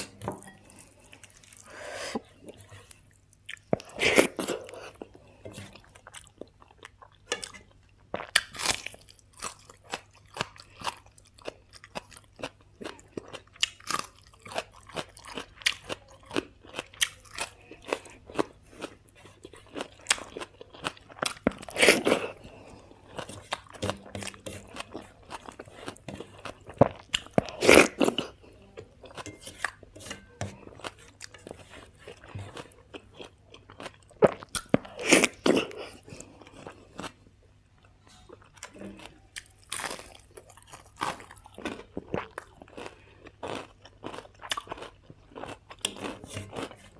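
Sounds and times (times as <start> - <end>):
chewing and crunching: 0.0 - 37.3, 38.0 - 46.9.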